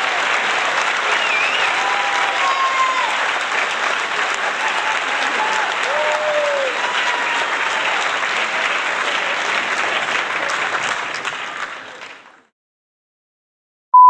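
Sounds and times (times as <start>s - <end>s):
crowd clapping: 0.0s - 12.5s.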